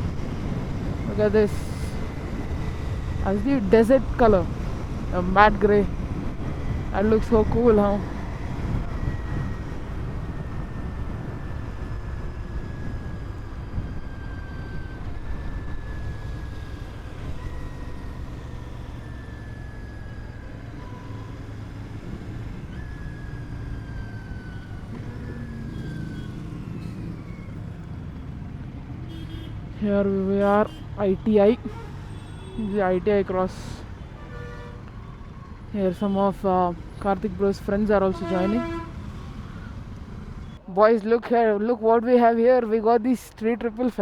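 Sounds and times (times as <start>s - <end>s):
motorcycle engine and road rumble: 0.0s - 41.6s.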